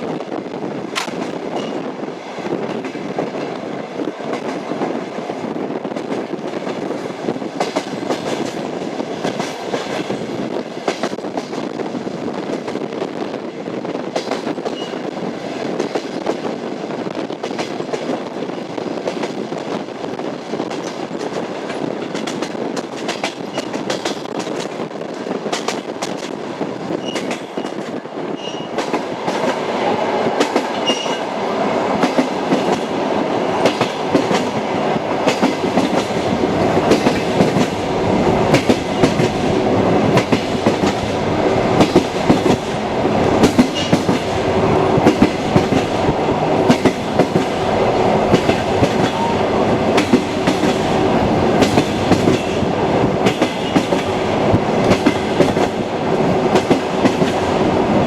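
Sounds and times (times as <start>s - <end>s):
train rumbling: 0.0s - 58.0s
train wheels clattering on rails: 0.0s - 58.0s.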